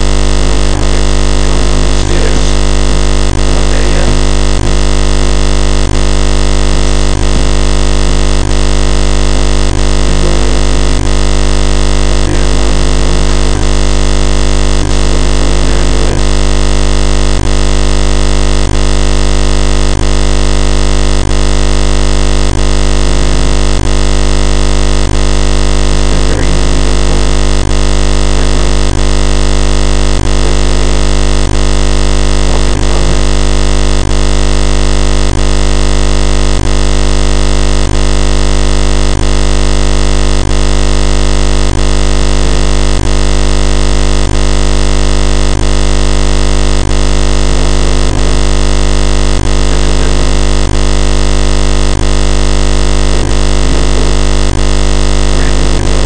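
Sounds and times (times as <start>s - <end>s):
loud electronic buzz: 0.0s - 56.0s.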